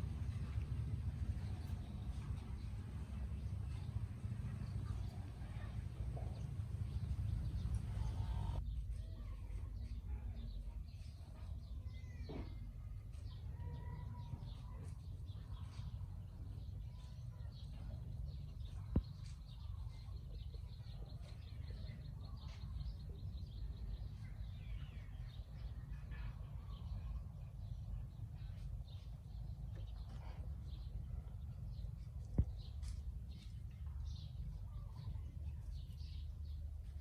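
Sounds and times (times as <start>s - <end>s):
birds chirping faintly: 0.0s - 37.0s
low background rumble: 0.0s - 37.0s.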